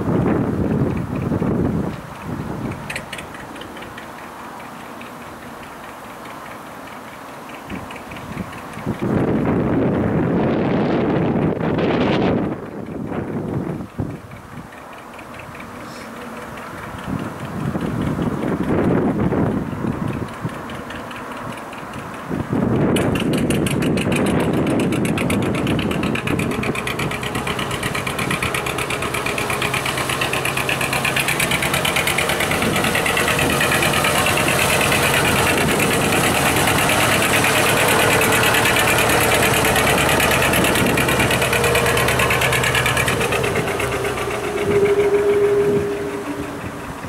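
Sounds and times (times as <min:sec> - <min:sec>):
boat engine running: 0:00.0 - 0:47.0.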